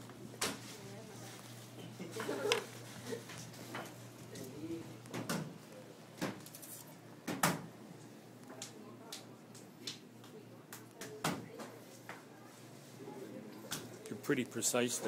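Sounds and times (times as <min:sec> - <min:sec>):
faint chatter: 0:00.1 - 0:15.0.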